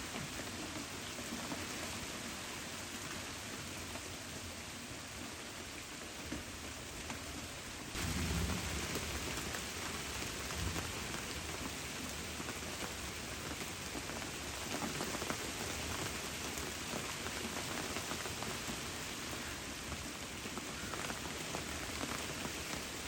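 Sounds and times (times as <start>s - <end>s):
patter of raindrops: 0.0s - 23.0s
steady rain falling: 0.0s - 23.0s.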